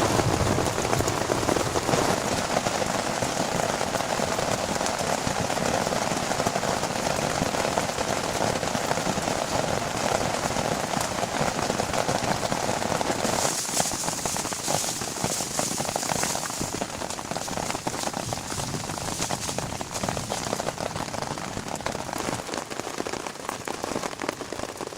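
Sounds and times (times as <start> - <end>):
heavy rain patter: 0.0 - 24.9.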